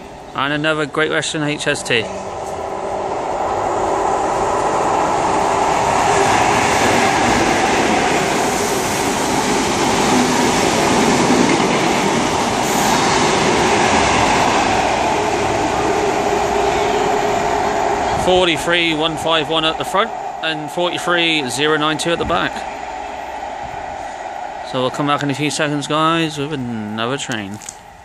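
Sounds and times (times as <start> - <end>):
diesel train passing at speed: 0.0 - 28.0
wheels rumbling on rail: 0.0 - 28.0.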